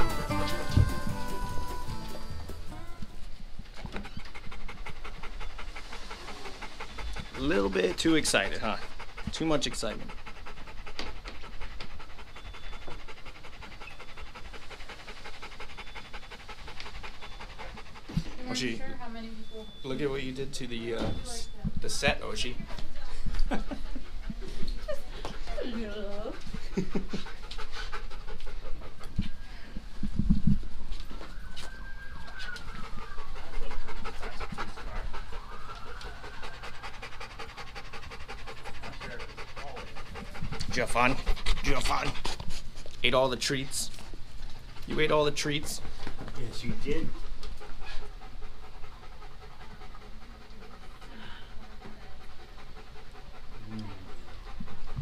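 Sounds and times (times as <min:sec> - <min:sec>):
dog panting: 0:00.0 - 0:55.0.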